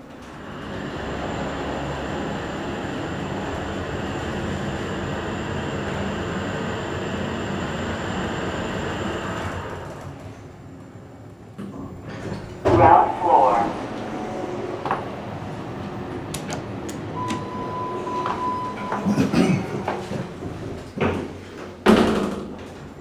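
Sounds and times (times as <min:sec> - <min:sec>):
elevator ride rushing noise: 0:00.0 - 0:23.0.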